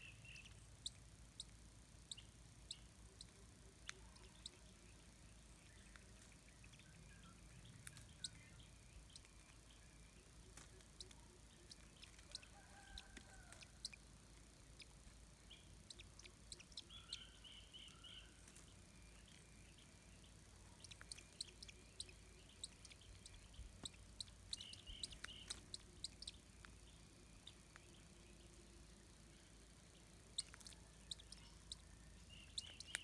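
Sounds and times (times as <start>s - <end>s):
faint bird calls: 0.0s - 33.0s.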